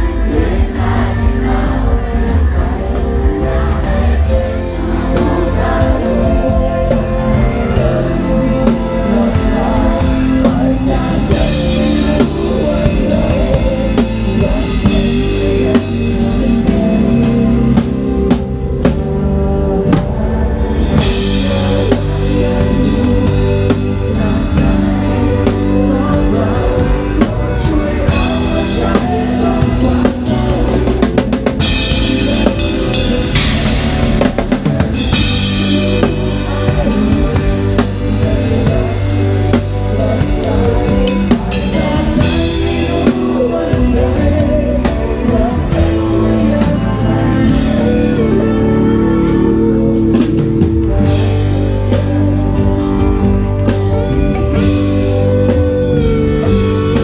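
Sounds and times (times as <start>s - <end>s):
drum kit: 0.0s - 57.0s
live rock band playing: 0.0s - 57.0s.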